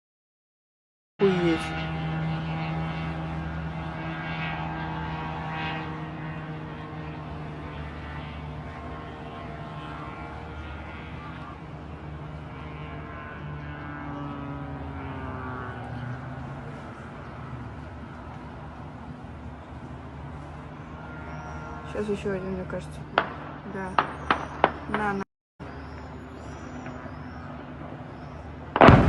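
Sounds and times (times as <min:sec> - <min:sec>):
drone engine buzzing: 0:01.2 - 0:29.0.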